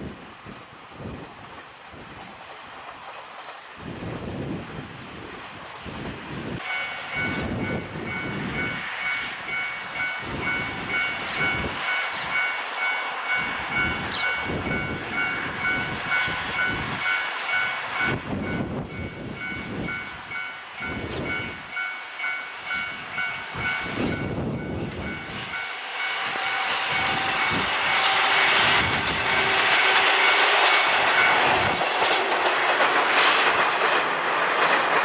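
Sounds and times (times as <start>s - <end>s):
train wheels clacking on rails: 1.5s - 4.4s, 6.6s - 35.0s.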